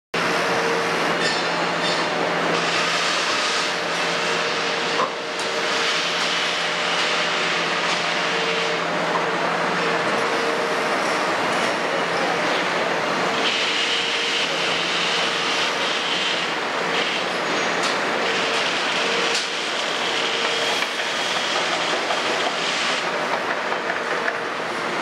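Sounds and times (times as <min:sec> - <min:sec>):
diesel excavator engine running: 0:00.2 - 0:25.0.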